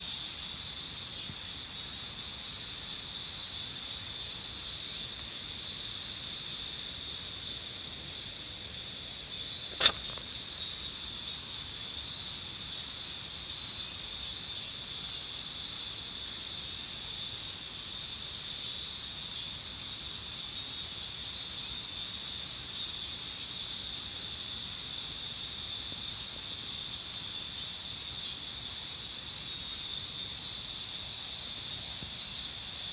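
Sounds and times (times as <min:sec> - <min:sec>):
insects chorus: 0:00.0 - 0:32.9.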